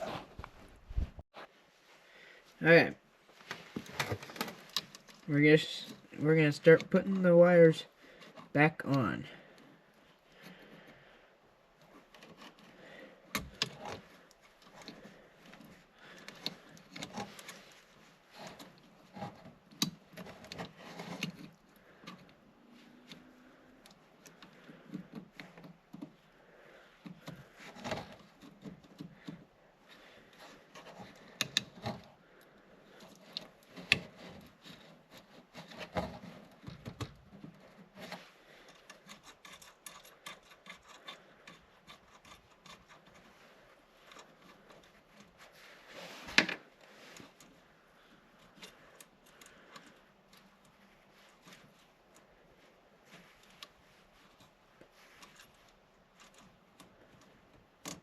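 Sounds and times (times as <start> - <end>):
handling wires rubbing and scraping: 0.0 - 1.9, 2.6 - 58.0.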